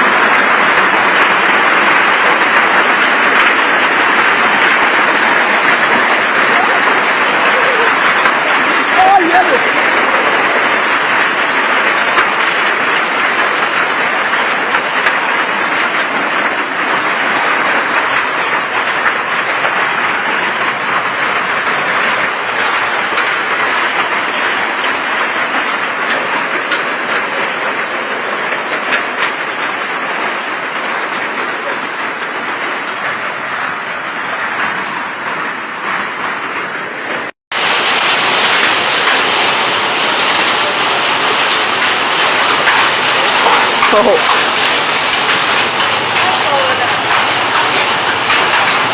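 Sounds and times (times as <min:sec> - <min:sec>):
heavy rain and hail pelting: 0:00.0 - 0:48.9.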